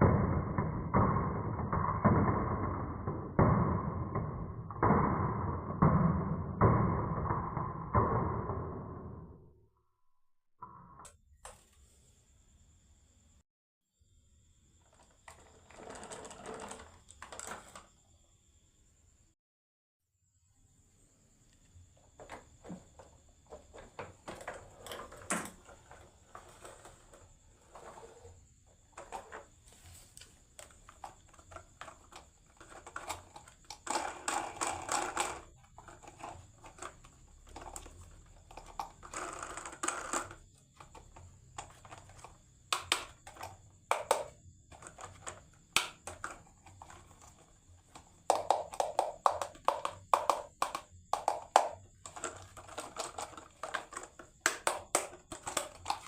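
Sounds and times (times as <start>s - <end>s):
marbles rolling and clacking: 0.0s - 9.4s, 14.9s - 17.9s, 22.2s - 29.6s, 30.5s - 56.0s.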